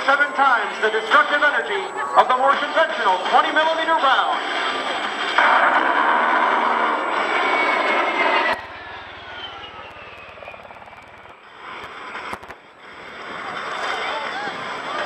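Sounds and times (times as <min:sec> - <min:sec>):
jet engine whine: 0:00.0 - 0:15.0
jet passing low: 0:00.0 - 0:15.0.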